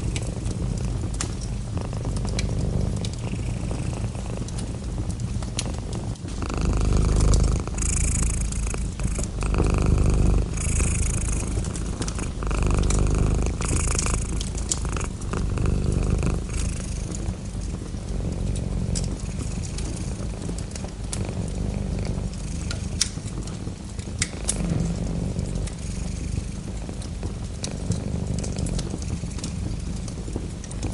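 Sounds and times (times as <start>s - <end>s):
cat purring: 0.0s - 30.9s
fireplace fire crackling: 0.0s - 30.9s.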